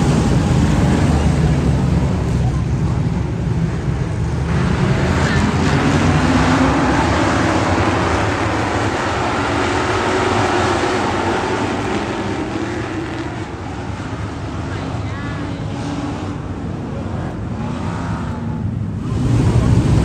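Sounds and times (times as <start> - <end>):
road noise: 0.0 - 20.0
vehicle engine: 0.0 - 20.0.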